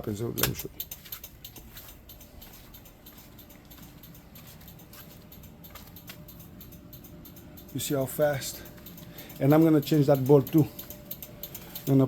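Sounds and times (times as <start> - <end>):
rapid turn signal clicking: 0.4 - 12.0.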